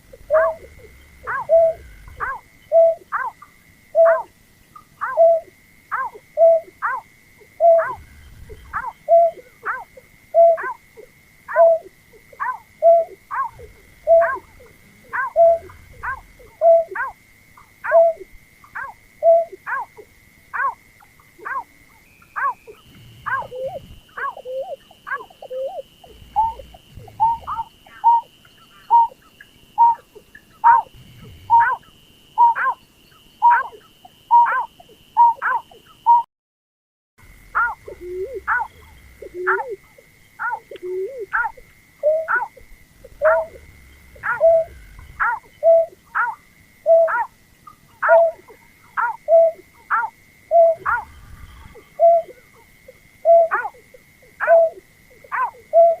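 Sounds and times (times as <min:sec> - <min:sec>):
bird calling: 0:00.0 - 0:36.3, 0:37.3 - 0:56.0
faint steady high tone: 0:00.0 - 0:36.3, 0:37.2 - 0:56.0.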